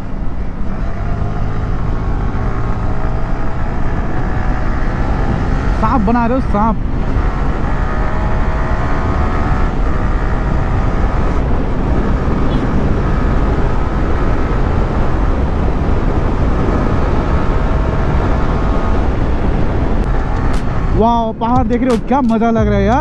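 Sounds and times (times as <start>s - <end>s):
wind rush on microphone: 0.0s - 23.0s.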